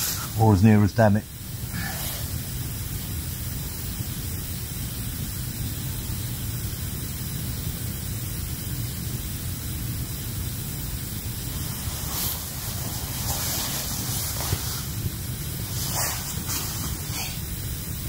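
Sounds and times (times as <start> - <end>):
gas stove burner hissing: 0.0 - 18.0.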